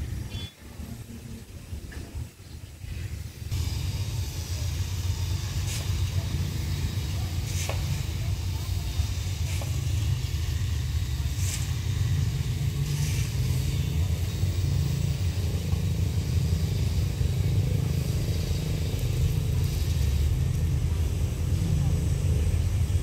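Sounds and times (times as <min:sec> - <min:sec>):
diesel locomotive engine: 0:00.0 - 0:23.0.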